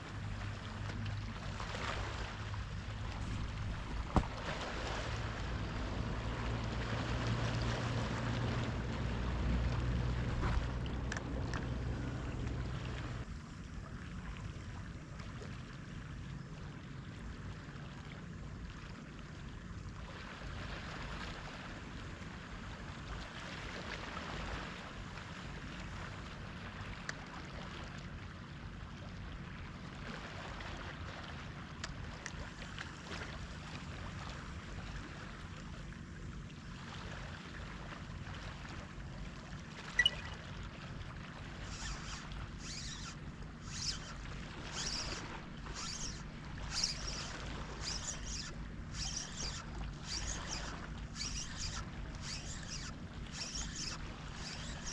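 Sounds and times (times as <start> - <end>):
low engine hum: 0.0 - 54.9
waves: 0.0 - 54.9
wind: 0.0 - 54.9.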